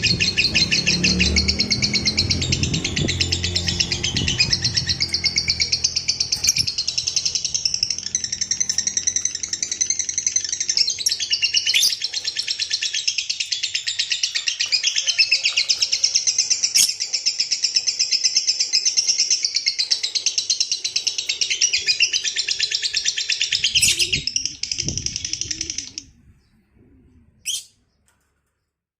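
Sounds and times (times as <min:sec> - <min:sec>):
lovebird chattering trill: 0:00.0 - 0:26.2, 0:27.3 - 0:27.8
bird chirp: 0:00.0 - 0:28.8.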